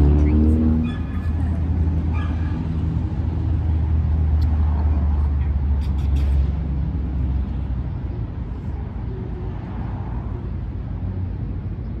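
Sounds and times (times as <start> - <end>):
outdoor background noise: 0.0 - 12.0
vehicle engine rumbling: 0.0 - 12.0.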